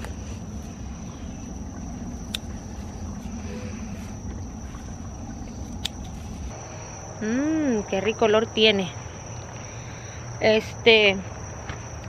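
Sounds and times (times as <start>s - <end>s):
low rumble: 0.0s - 10.4s
high-pitched insect drone: 0.0s - 12.0s.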